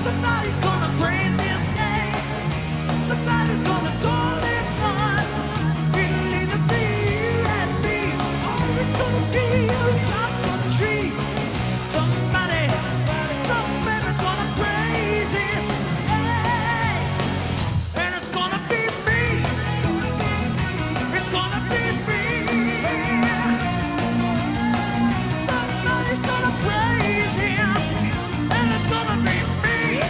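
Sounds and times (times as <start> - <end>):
man singing with vibrato: 0.0 - 17.3, 17.9 - 30.0
rock band playing live: 0.0 - 30.0.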